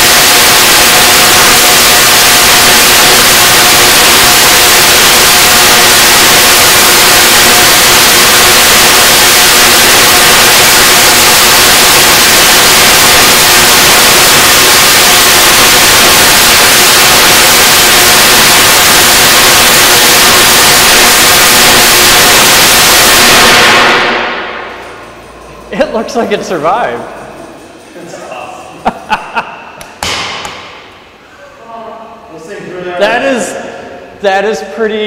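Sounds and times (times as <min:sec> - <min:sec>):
tesla coil crackling arcs: 0:00.0 - 0:29.2.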